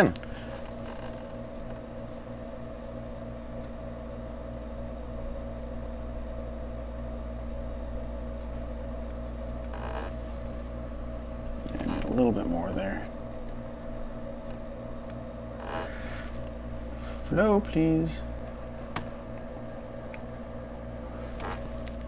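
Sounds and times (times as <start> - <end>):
low electrical hum with throb: 0.0 - 22.0.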